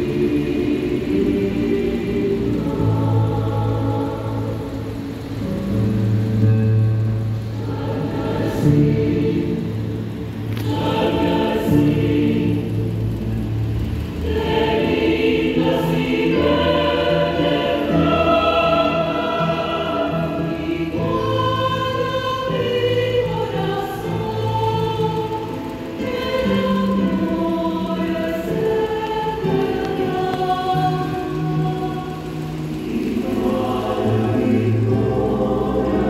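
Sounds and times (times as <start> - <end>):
mixed choir singing: 0.0 - 36.0
piano accompaniment: 0.0 - 36.0.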